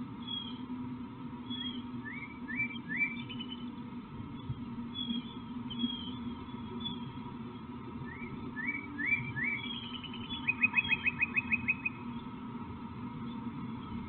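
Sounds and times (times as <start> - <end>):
low background hum: 0.0 - 14.0
songbird singing: 0.0 - 14.0.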